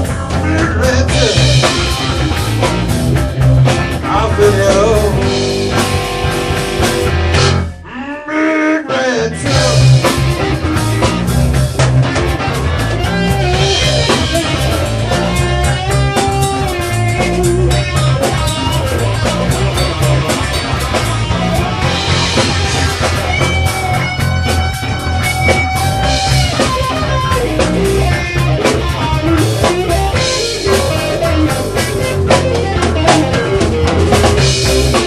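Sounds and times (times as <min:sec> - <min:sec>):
rock song with singing: 0:00.0 - 0:35.0.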